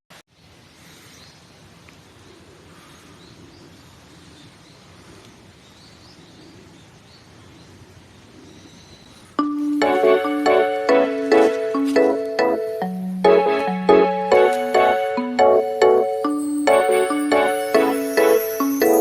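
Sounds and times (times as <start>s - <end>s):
low outdoor hiss: 0.2s - 19.0s.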